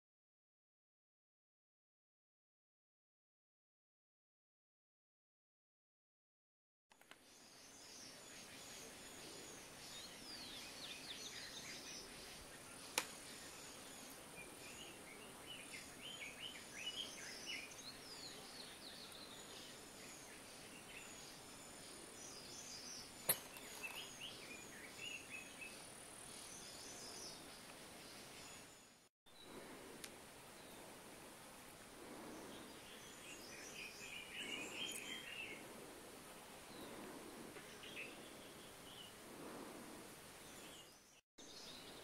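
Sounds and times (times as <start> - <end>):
small birds chirping: 6.9 - 42.0.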